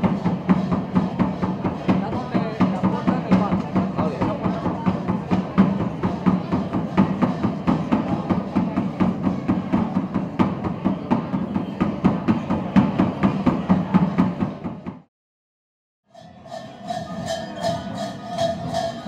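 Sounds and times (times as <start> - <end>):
drum beating quick rhythm: 0.0 - 15.1, 16.2 - 19.0.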